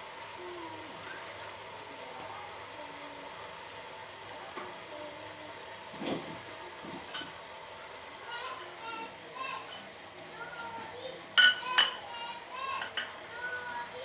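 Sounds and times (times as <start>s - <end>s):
pot simmering with steady hiss: 0.0s - 14.0s.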